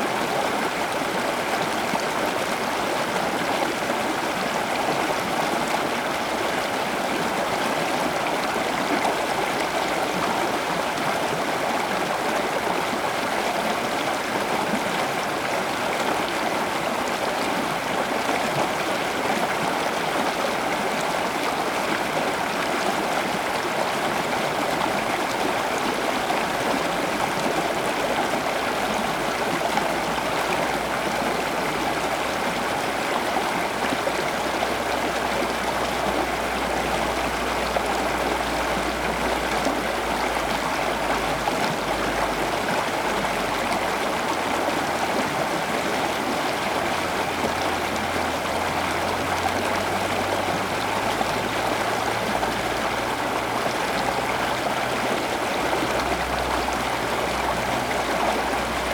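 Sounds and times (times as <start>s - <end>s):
running water gurgling: 0.0s - 58.9s.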